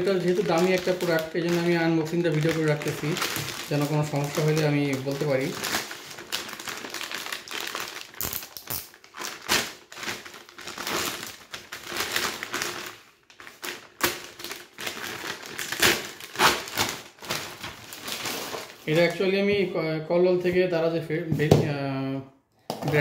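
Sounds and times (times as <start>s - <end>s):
plastic bag rustling and crinkling: 0.0s - 19.4s.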